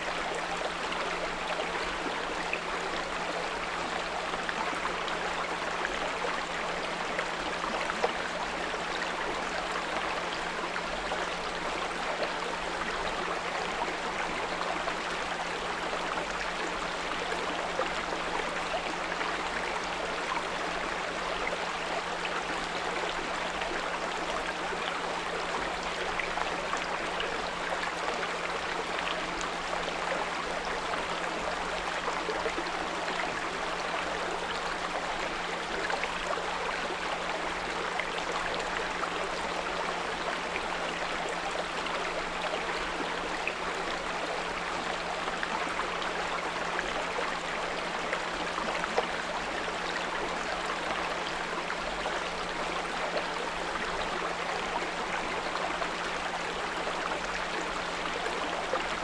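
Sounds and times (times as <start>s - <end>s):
small brook babbling: 0.0s - 59.0s.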